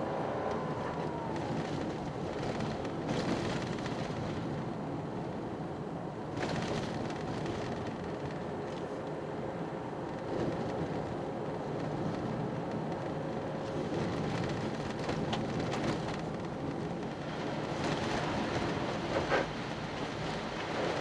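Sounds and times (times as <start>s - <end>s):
tyre noise on wet road: 0.0s - 5.6s, 6.4s - 21.0s.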